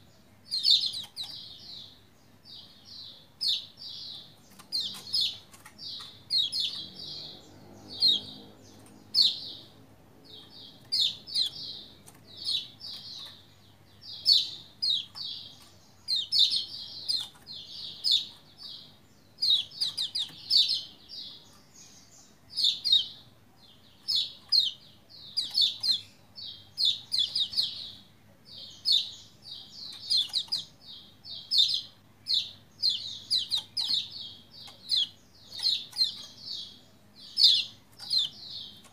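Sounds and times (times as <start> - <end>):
bird chirping rapidly: 0.0 - 38.9.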